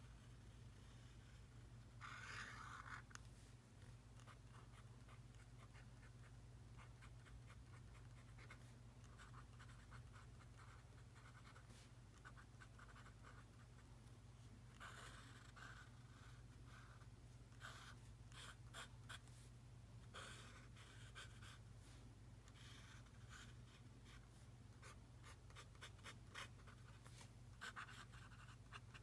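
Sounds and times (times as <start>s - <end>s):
pen scratching on paper: 0.0s - 3.2s, 4.2s - 13.8s, 14.7s - 19.3s, 20.1s - 21.6s, 22.5s - 24.2s, 24.8s - 29.0s.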